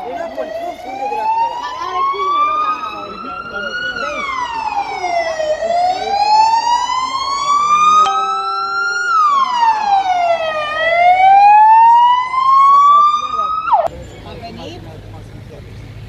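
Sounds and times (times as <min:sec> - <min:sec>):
ambulance siren wailing: 0:00.0 - 0:13.9.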